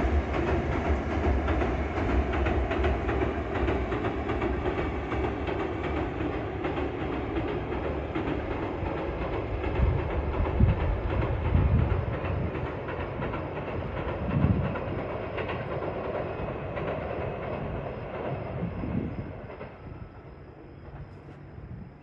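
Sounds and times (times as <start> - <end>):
train wheels rumbling on bridge: 0.0 - 22.0.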